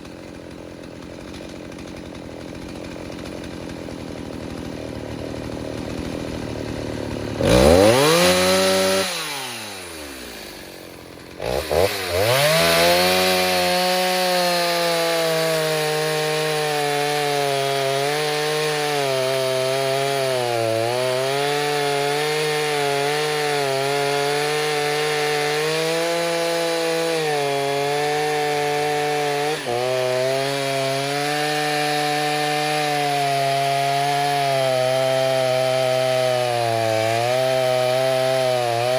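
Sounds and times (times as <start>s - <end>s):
chainsaw revving and cutting wood: 0.0s - 38.9s.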